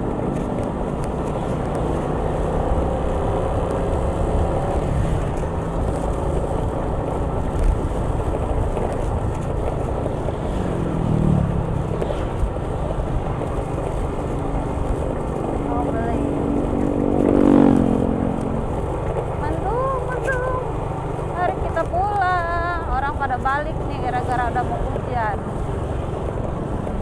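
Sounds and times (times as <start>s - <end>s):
passing engine rising and falling: 0.0s - 27.0s
road and traffic noise: 0.0s - 27.0s
vehicle engine running: 0.0s - 27.0s.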